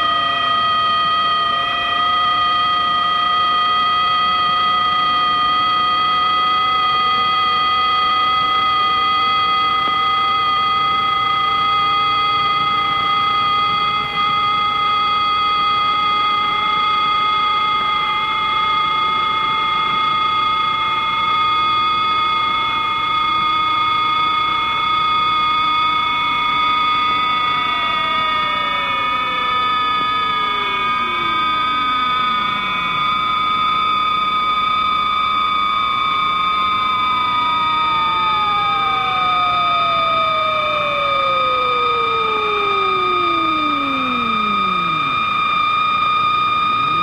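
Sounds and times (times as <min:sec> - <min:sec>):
sine tones sliding in pitch: 0:00.0 - 0:47.0
steady high sine tones: 0:00.0 - 0:47.0.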